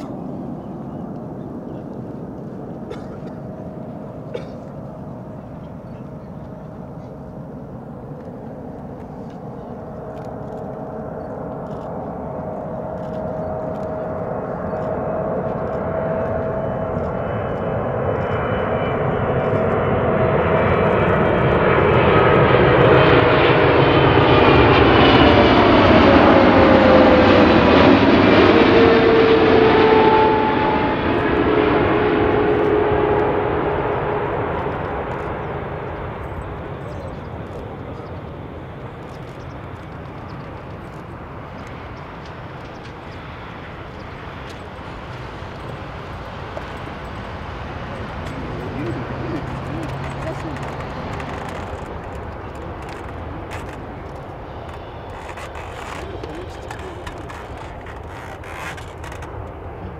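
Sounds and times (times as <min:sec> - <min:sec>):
jet engine whine passing: 0:00.0 - 0:59.9.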